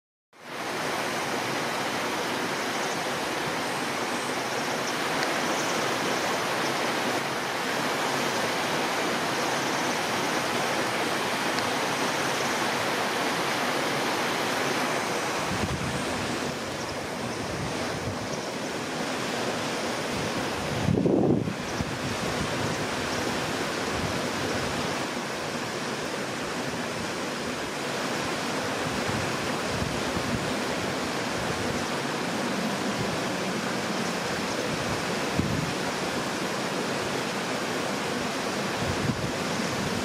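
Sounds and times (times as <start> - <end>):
river water rushing: 0.4 - 40.0.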